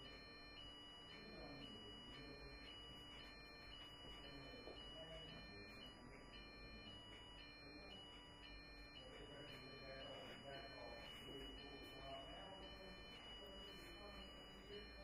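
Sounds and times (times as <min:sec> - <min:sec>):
faint electronic tones: 0:00.0 - 0:15.0
faint voices: 0:01.2 - 0:15.0.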